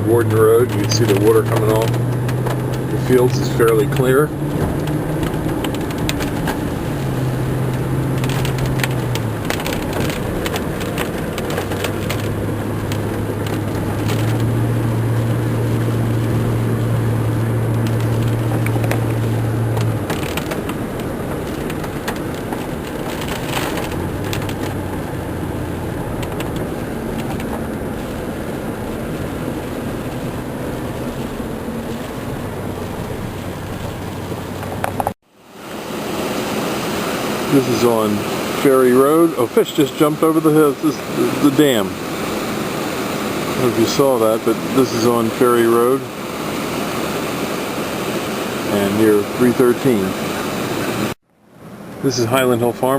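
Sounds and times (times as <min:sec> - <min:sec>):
car engine hum: 0:00.0 - 0:52.9
road noise: 0:00.0 - 0:52.9.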